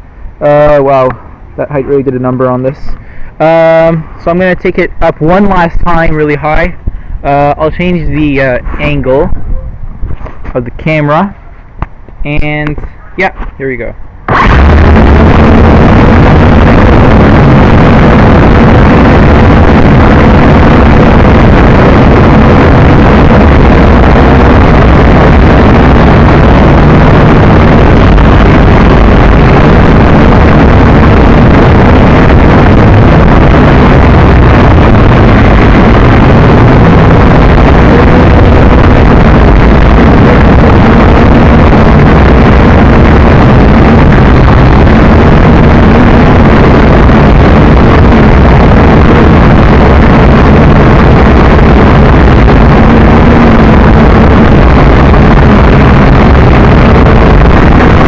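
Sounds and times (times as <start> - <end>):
wind rumble: 0.0 - 58.0
drone motors and propellers buzzing: 7.6 - 58.0.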